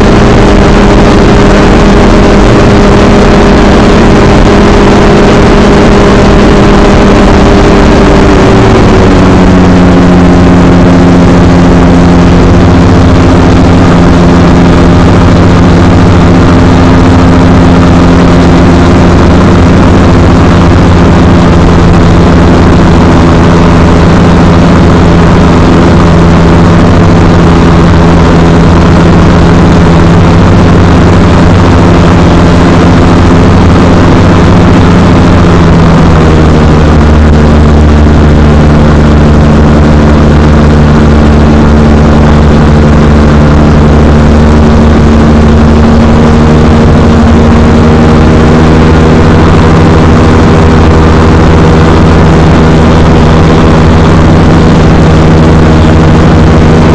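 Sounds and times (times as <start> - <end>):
microlight engine and propeller: 0.0 - 56.9.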